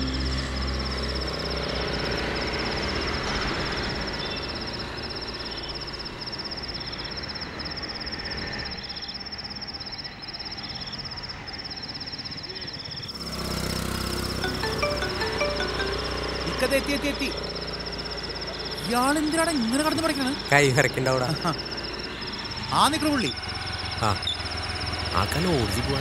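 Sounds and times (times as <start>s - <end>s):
crickets trilling: 0.0s - 14.5s, 16.6s - 26.0s.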